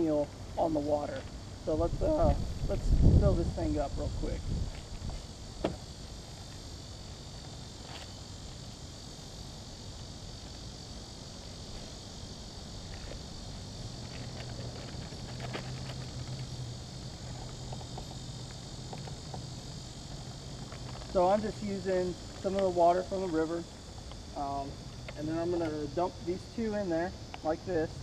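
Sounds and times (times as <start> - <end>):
insects droning: 0.0 - 28.0
low steady hum: 0.0 - 28.0.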